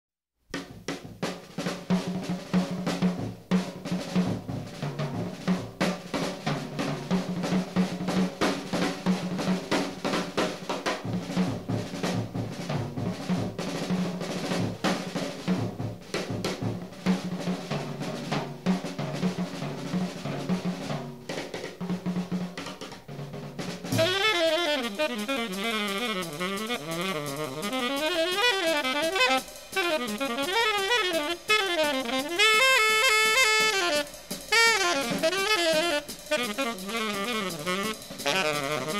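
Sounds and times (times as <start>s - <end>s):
jazz drum kit playing: 0.5s - 38.9s.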